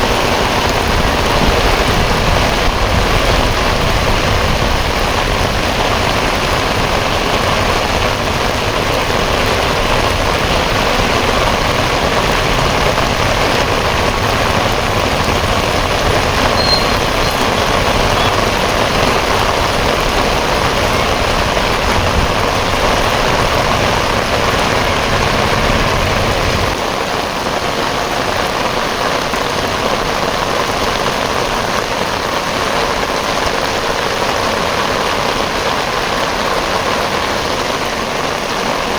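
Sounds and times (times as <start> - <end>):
heavy rain: 0.0 - 38.9
running water: 0.0 - 38.9.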